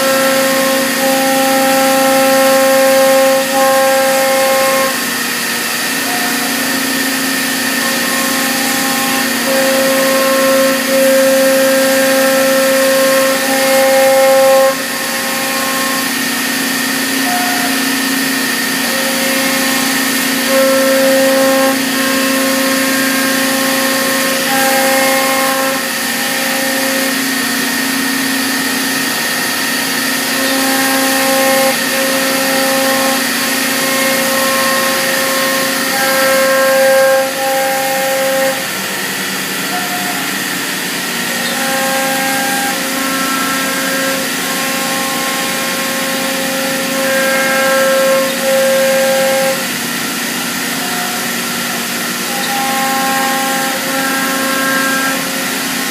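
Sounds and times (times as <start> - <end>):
router cutting wood: 0.0 - 55.9.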